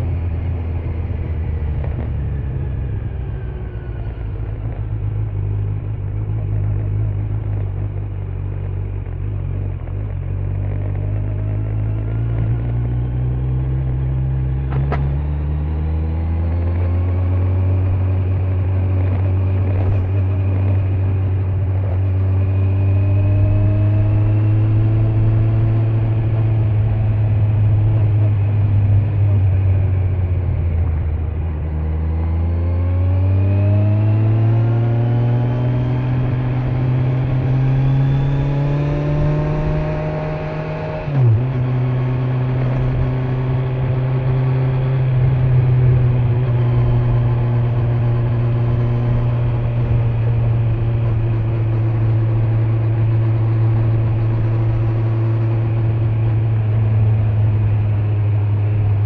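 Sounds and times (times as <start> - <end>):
motorcycle engine accelerating: 0.0 - 59.0
wind and tyre noise: 0.0 - 59.0.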